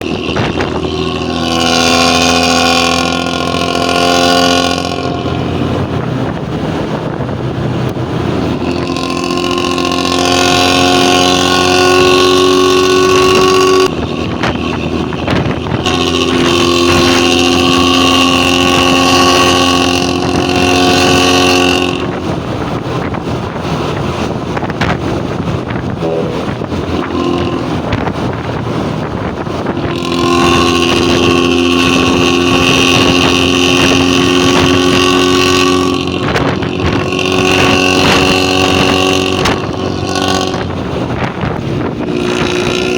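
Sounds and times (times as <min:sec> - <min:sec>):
bus engine revving exhaust growl: 0:00.0 - 0:42.9
low engine rumble: 0:00.0 - 0:42.9.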